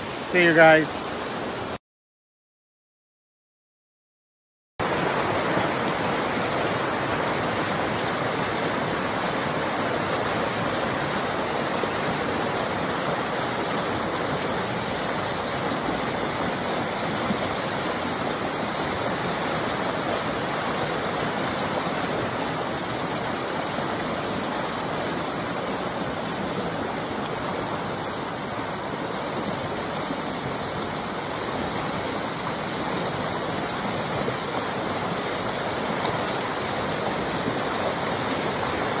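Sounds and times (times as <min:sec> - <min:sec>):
creek water rushing over rocks: 0:00.0 - 0:01.8, 0:04.8 - 0:39.0.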